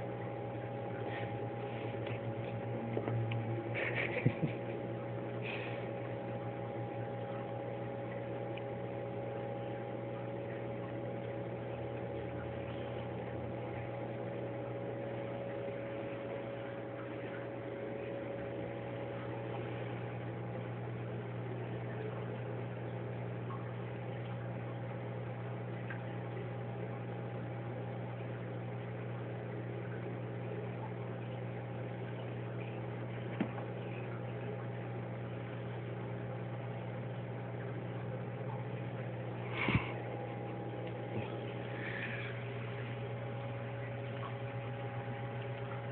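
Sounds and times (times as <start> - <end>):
steady machine hum: 0.0 - 45.9.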